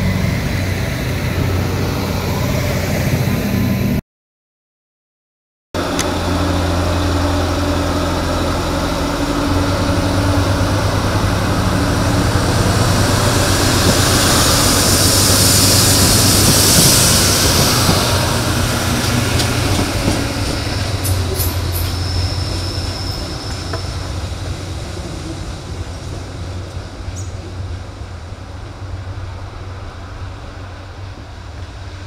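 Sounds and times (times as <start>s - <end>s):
diesel railcar engine idling: 5.8s - 32.0s
rushing hiss: 5.8s - 32.0s.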